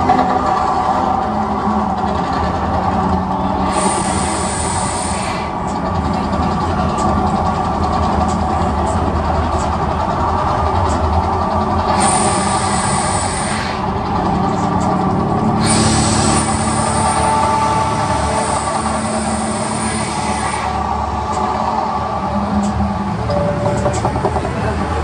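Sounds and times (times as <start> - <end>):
gas flame jets hissing: 0.0 - 8.5, 9.2 - 25.0
steady low rumble: 0.0 - 25.0.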